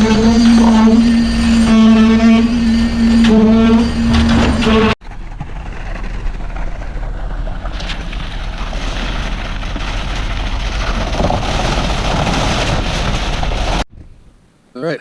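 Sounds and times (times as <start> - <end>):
steady noisy rumble: 0.0 - 15.0.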